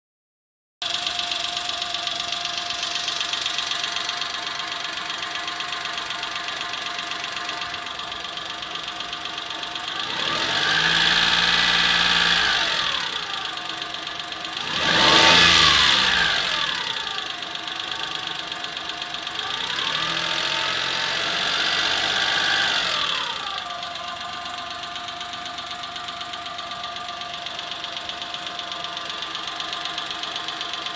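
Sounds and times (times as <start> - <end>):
car engine idling and revving: 0.8 - 30.9.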